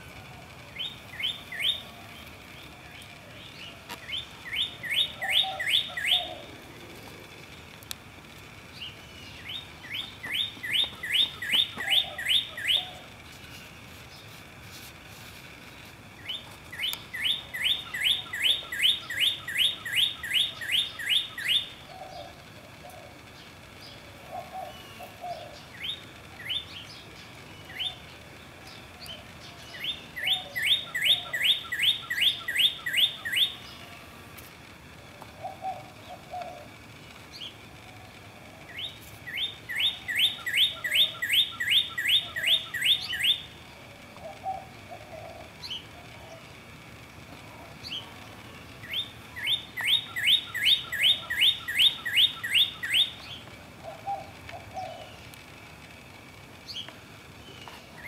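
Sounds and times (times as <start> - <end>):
faint low bird calls: 0.0 - 58.0
songbird singing: 0.0 - 58.0.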